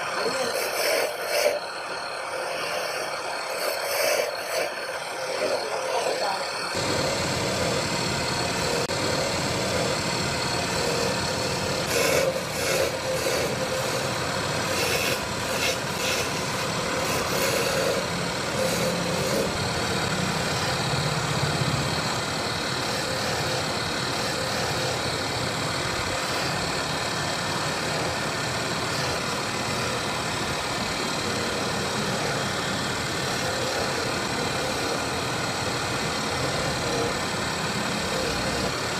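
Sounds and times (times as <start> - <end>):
power tool motor running: 0.0 - 38.9.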